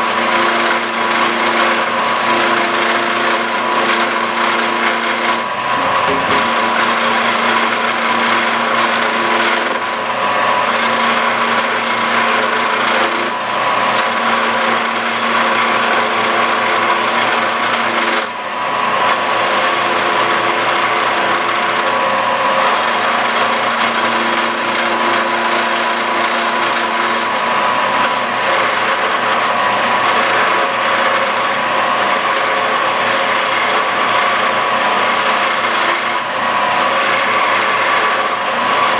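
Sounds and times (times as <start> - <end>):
cutter scraping spinning wood: 0.0 - 38.9
lathe motor whine: 0.0 - 38.9.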